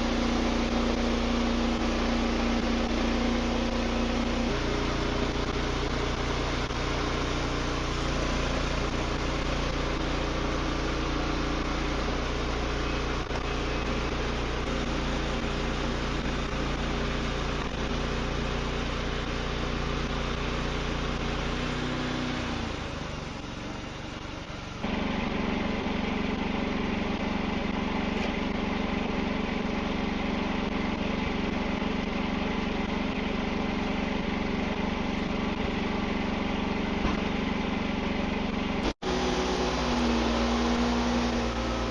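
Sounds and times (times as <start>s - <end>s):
sawmill engine running: 0.0s - 41.9s.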